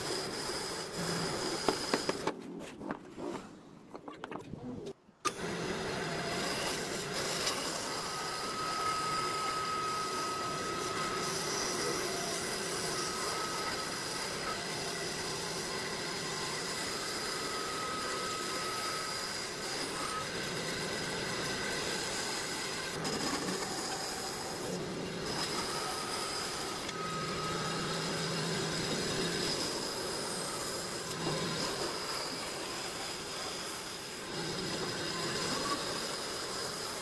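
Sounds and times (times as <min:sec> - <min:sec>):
woodworking power tool whining: 0:00.0 - 0:02.4, 0:05.2 - 0:37.0.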